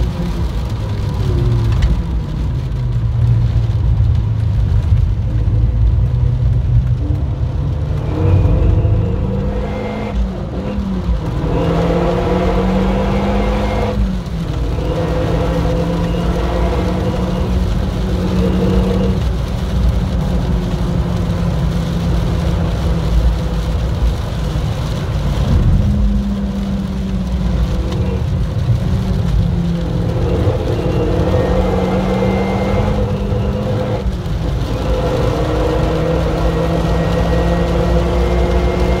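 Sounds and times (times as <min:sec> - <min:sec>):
car engine from inside cabin: 0:00.0 - 0:39.0
rain and tyre spray hiss: 0:00.0 - 0:39.0.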